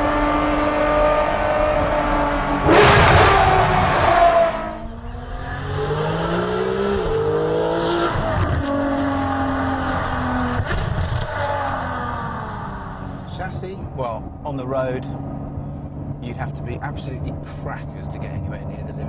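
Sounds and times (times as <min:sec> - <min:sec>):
car engine accelerating through gears: 0:00.0 - 0:19.0.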